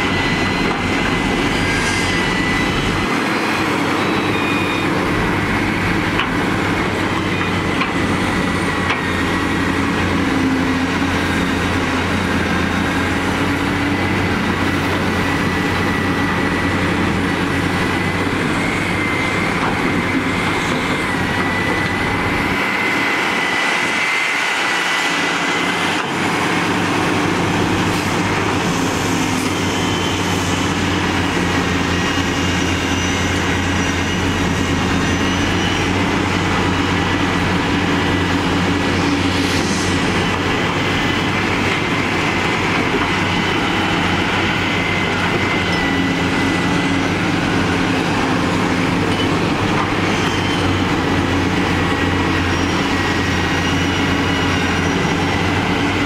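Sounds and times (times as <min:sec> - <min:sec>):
heavy diesel engine drone: 0:00.0 - 0:56.0.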